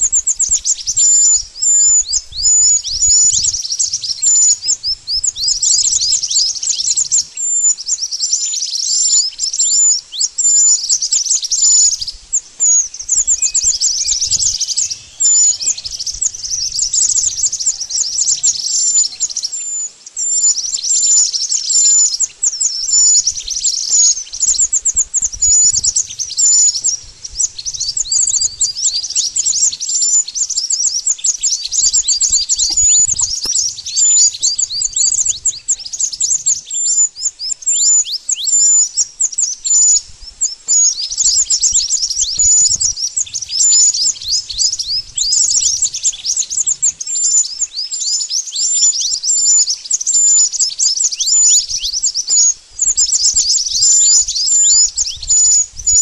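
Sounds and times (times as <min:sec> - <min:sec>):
recorded bird chirps: 0:00.0 - 0:56.0.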